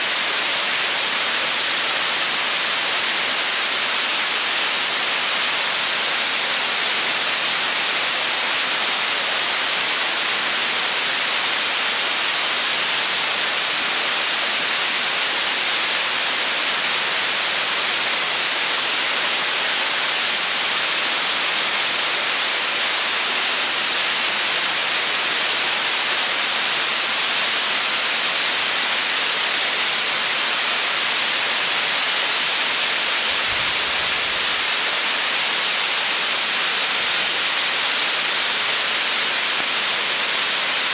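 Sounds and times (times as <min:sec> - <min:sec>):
waterfall rushing into pool: 0:00.0 - 0:40.9.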